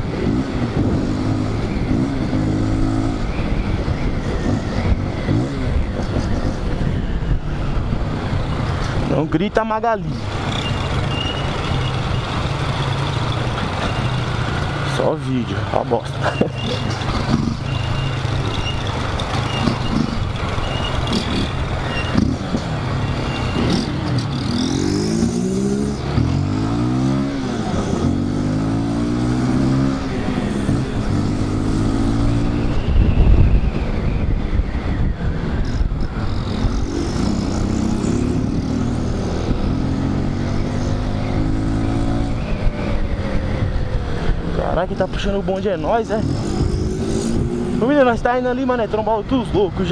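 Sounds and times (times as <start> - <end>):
motorcycle engine revving: 0.0 - 6.8, 10.1 - 48.7.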